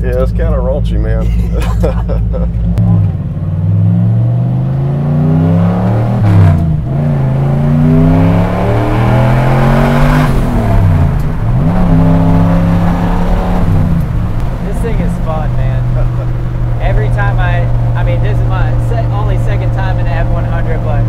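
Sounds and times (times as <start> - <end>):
engine accelerating and shifting: 0.0 - 21.0.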